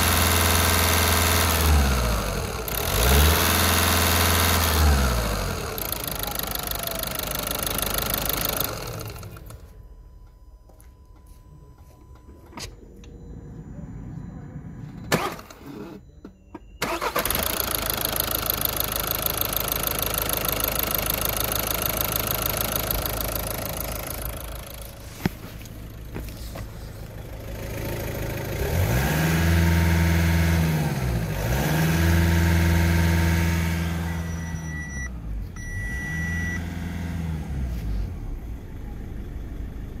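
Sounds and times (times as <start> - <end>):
diesel engine starting and revving: 0.0 - 9.7, 13.0 - 16.1, 16.8 - 40.0.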